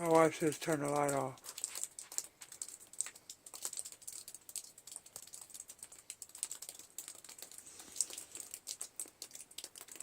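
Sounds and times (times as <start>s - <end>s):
wet snow ticking and tapping: 0.0s - 10.0s.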